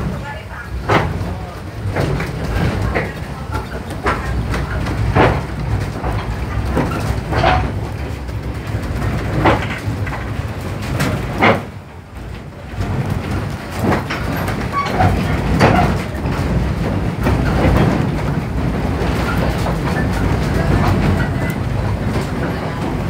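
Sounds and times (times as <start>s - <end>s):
train carriage rumbling: 0.0s - 23.0s
wheels clacking on rail joints: 0.0s - 23.0s.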